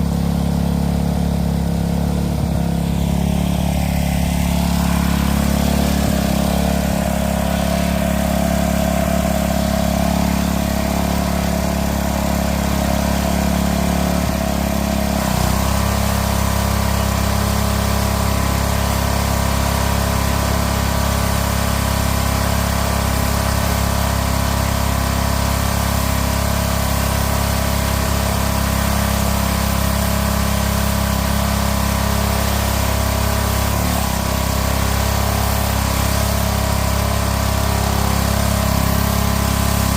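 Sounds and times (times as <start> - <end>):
hiss of water spray: 0.0 - 39.9
pressure washer engine hum: 0.0 - 39.9.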